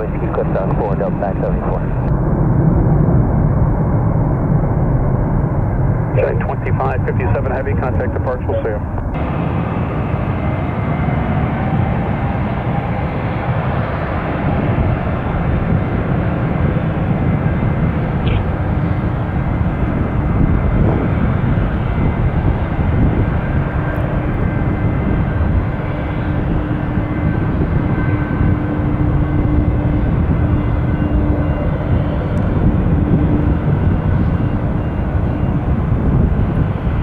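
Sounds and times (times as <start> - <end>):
jet engine whine: 0.0 - 37.0
jet engines rumbling: 0.0 - 37.0.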